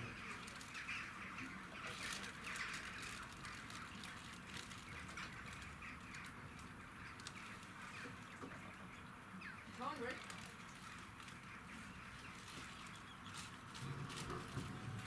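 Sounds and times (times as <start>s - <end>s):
waterbirds calling: 0.0s - 15.0s.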